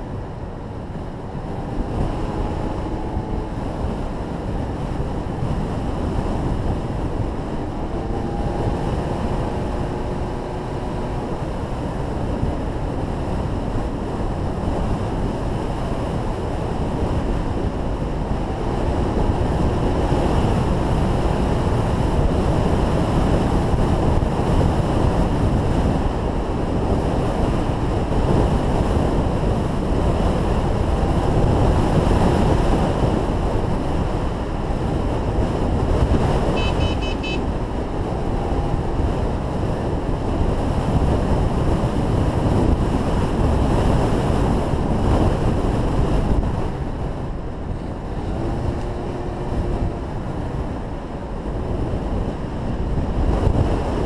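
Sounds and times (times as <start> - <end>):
wheels rolling on asphalt: 0.0 - 54.0
wind buffeting microphone: 0.0 - 54.0.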